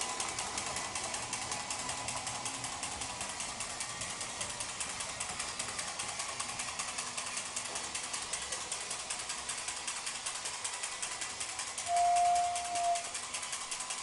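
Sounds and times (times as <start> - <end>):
toy train clattering on track: 0.0 - 14.0
toy train motor whirring: 0.0 - 14.0.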